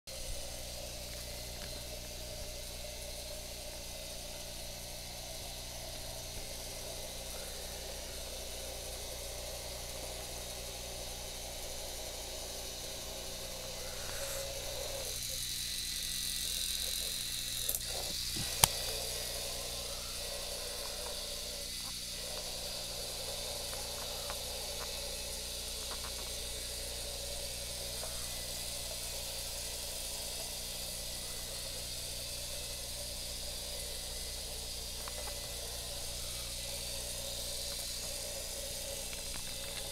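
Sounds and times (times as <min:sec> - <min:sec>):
toy motor whirring: 0:00.1 - 0:39.9.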